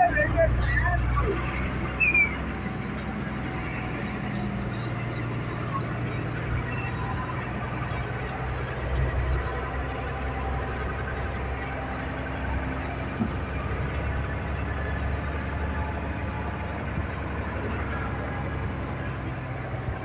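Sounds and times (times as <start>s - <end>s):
truck engine drone: 0.0s - 20.0s.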